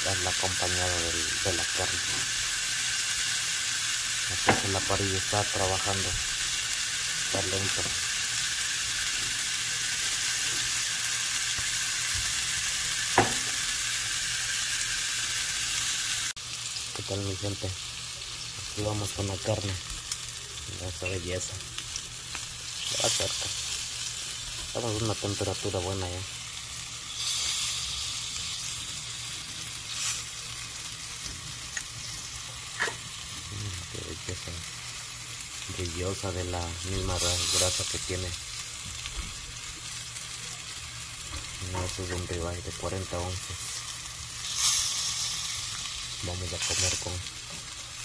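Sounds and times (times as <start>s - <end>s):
steak sizzling in grill pan: 0.0s - 48.0s.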